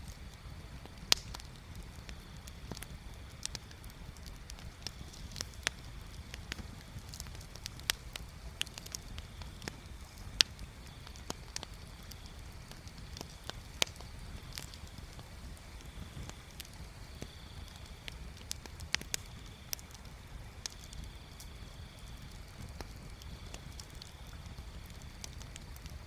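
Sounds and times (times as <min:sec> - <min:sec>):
bonfire crackling and popping: 0:00.0 - 0:26.0.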